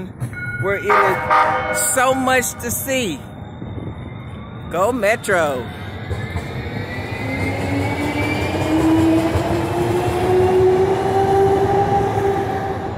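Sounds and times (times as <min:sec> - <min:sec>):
train wheels rumbling on rails: 0:00.0 - 0:12.9.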